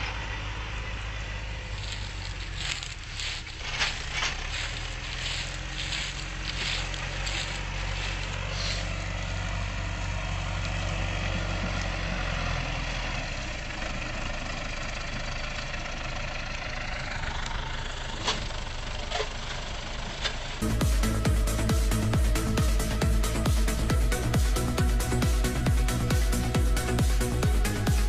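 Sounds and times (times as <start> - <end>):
tractor engine humming: 0.0 - 28.0.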